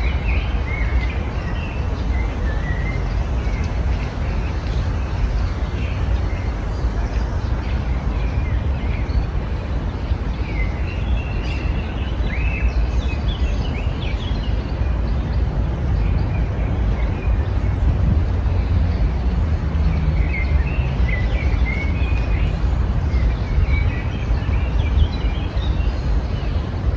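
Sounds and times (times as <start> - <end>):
songbirds chirping and trilling: 0.0 - 26.9
steady low rumble: 0.0 - 26.9.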